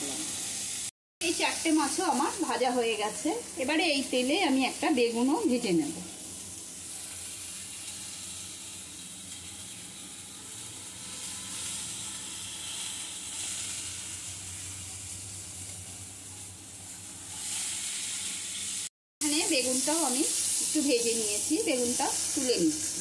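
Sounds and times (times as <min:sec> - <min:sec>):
oil sizzling with frying fish: 0:00.0 - 0:23.0.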